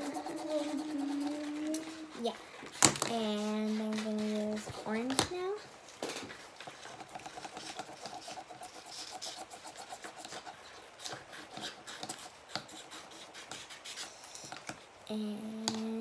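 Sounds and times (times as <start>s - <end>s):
crayon scratching on paper: 0.0s - 5.1s, 6.5s - 14.6s.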